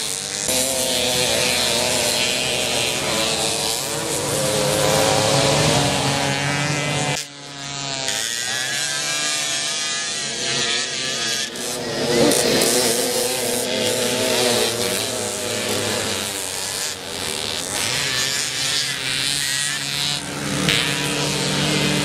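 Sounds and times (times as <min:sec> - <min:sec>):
moped engines buzzing: 0:00.0 - 0:22.0.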